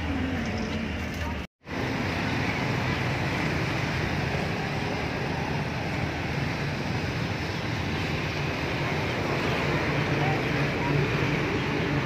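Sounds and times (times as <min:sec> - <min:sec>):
roadside traffic hum: 0:00.0 - 0:12.0.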